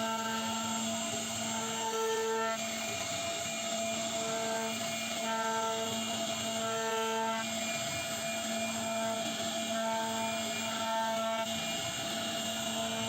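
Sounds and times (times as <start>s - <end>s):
cnc router spindle whine: 0.0s - 13.0s.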